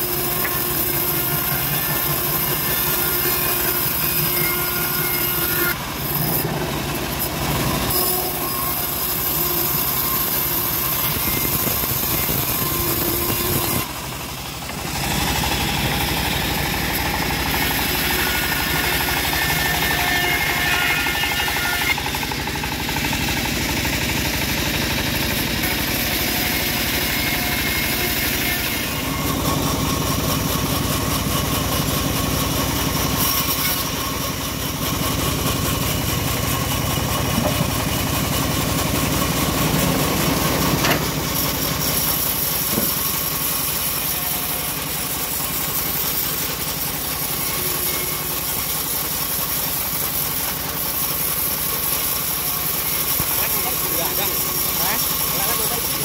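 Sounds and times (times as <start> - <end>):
engine-driven bandsaw mill sawing log: 0.0 - 56.0.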